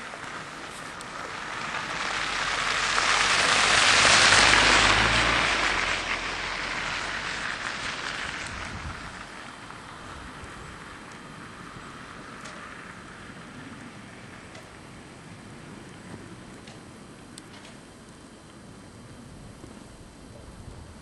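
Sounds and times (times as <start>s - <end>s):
low engine hum: 0.0s - 21.0s
tyres hissing on wet road: 0.0s - 21.0s.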